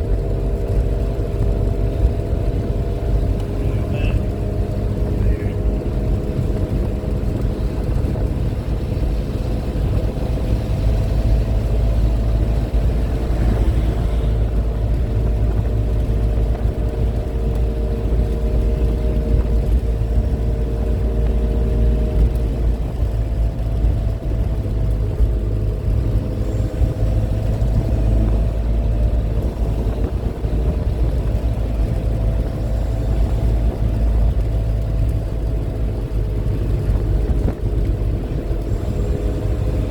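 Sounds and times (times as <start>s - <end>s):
car engine cruising: 0.0s - 39.9s
road and wind rumble: 0.0s - 39.9s.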